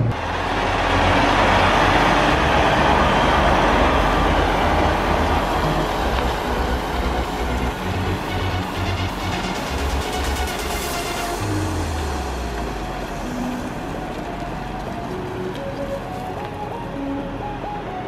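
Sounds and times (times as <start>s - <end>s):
truck diesel engine rumble: 0.0s - 18.0s.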